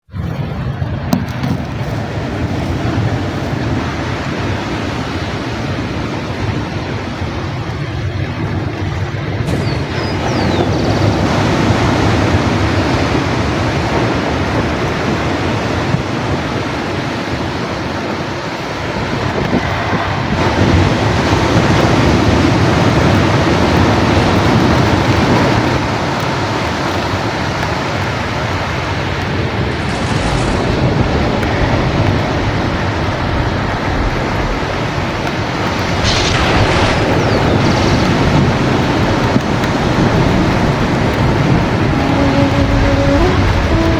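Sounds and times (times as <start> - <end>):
ocean waves breaking: 0.6 - 43.9.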